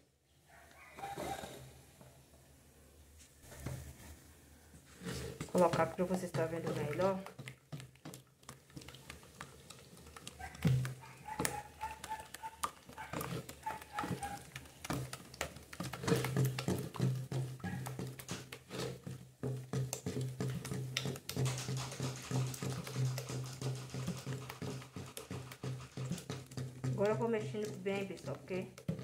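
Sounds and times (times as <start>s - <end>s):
wooden spoon scraping plastic bucket: 4.8s - 29.0s.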